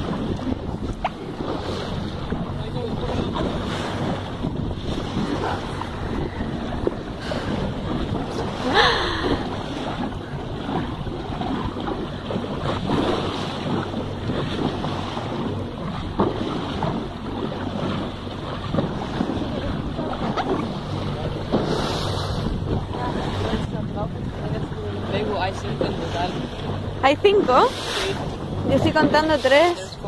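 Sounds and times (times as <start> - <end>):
boat engine humming: 0.0 - 30.0
water washing against boat: 0.0 - 30.0
wind buffeting microphone: 0.0 - 30.0.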